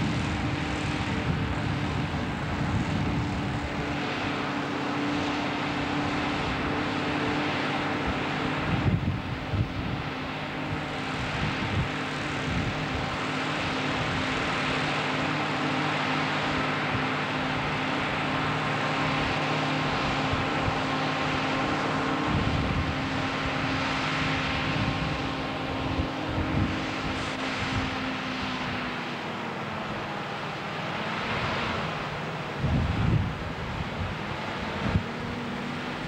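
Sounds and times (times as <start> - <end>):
wind rumbling on microphone: 0.0 - 29.2, 30.9 - 36.0
tractor running: 0.0 - 36.0.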